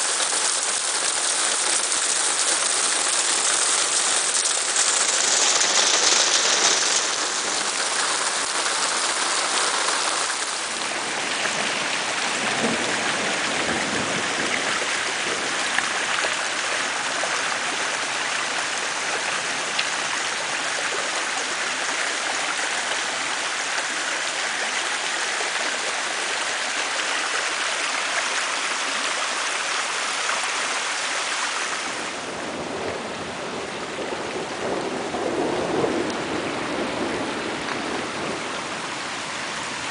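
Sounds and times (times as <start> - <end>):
heavy downpour: 0.0 - 39.9
runoff water flowing over gravel: 0.0 - 39.9.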